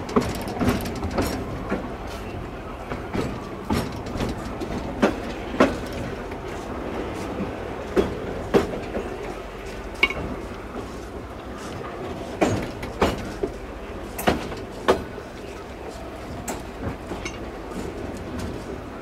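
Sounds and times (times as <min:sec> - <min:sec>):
railway wagons rumbling on track: 0:00.0 - 0:19.0
wheels clacking over rail joints: 0:00.0 - 0:19.0.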